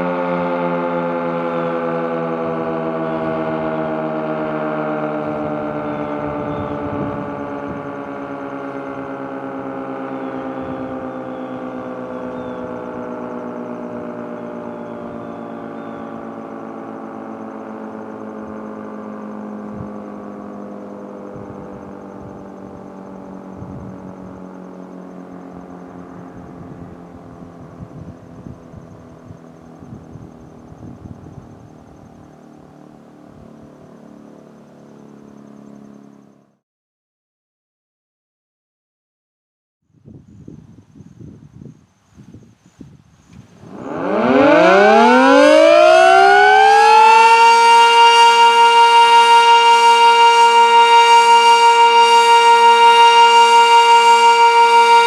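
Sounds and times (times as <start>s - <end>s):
warning siren winding down: 0.0s - 36.6s, 43.6s - 55.0s.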